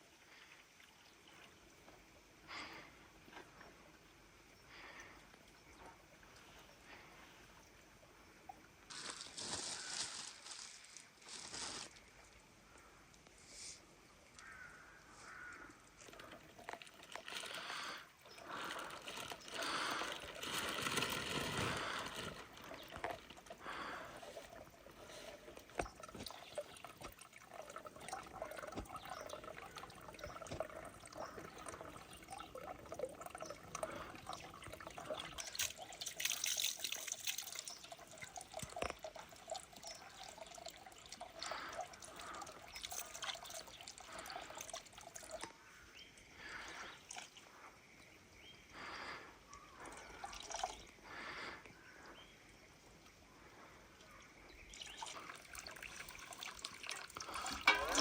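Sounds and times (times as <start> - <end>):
water trickling and pouring: 0.2 - 12.8, 15.6 - 47.6, 49.7 - 51.4, 53.5 - 58.0.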